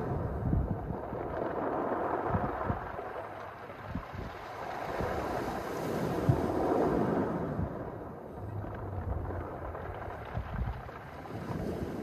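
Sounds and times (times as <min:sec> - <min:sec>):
waves washing over pebbles: 0:00.0 - 0:12.0
wind buffeting microphone: 0:00.0 - 0:12.0.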